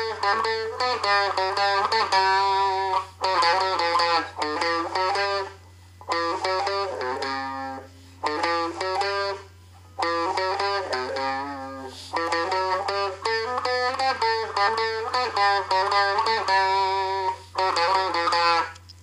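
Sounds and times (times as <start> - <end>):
plucked guitar runs: 0.0 - 19.0
steady low hum: 0.0 - 19.0.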